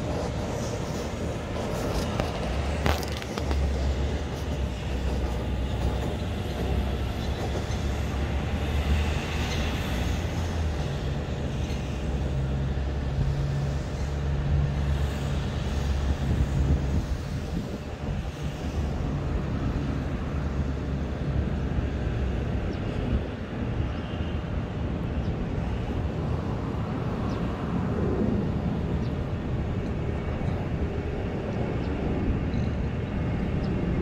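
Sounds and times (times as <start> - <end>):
low city rumble: 0.0 - 34.0.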